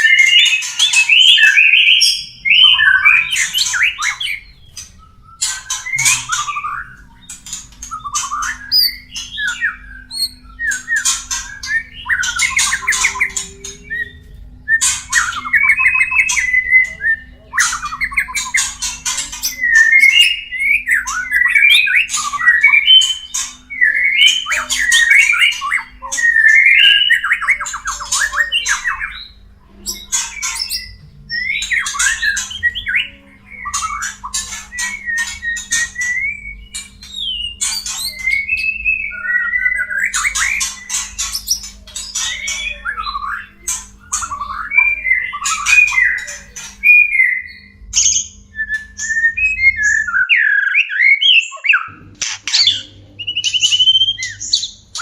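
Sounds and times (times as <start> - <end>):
birds giving harsh buzzy calls: 0.0 - 55.0.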